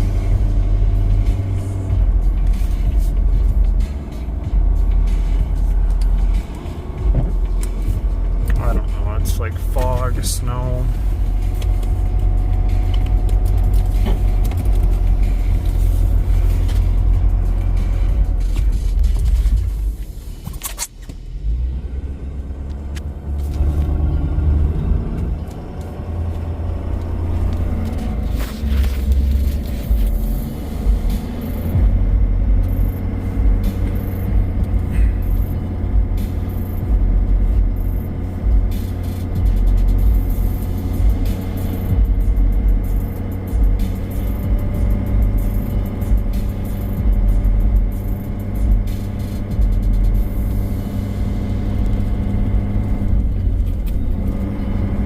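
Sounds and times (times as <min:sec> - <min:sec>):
pickup truck driving through snow: 0:00.0 - 0:20.4, 0:21.4 - 0:55.0.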